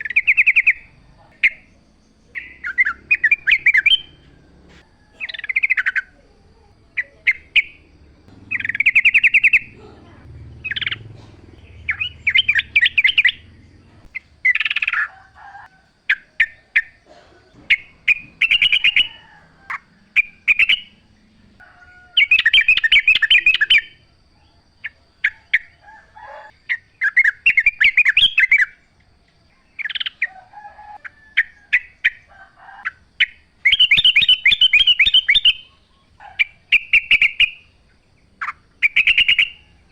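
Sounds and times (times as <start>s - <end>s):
birds chattering song: 0.0s - 39.9s.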